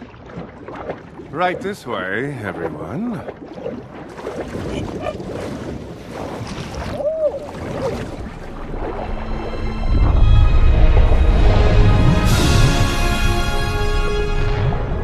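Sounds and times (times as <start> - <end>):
rushing churning water underwater: 0.0 - 15.0.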